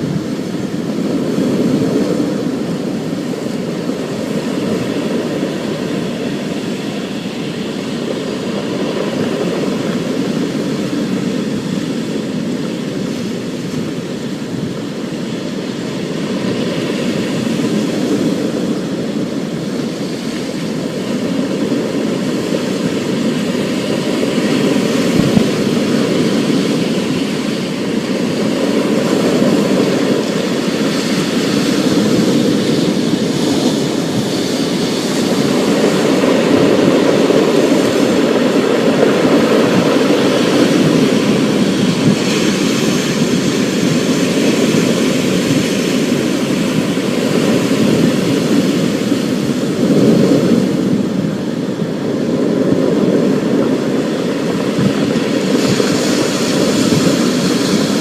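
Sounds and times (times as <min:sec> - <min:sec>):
storm rumble: 0:00.0 - 0:58.0.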